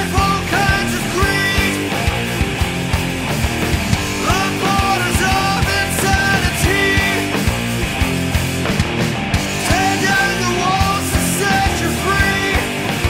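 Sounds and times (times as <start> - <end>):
rock song with full band: 0.0 - 13.0.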